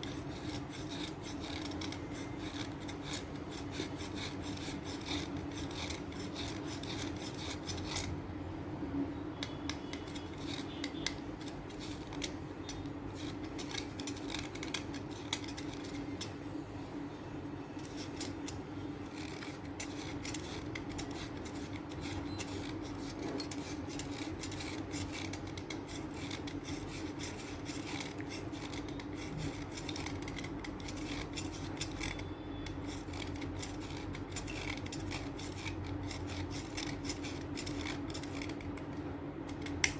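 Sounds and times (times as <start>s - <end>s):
blade scraping chalk: 0.0s - 8.2s, 9.3s - 16.9s, 17.6s - 39.9s
steady low hum: 0.0s - 39.9s.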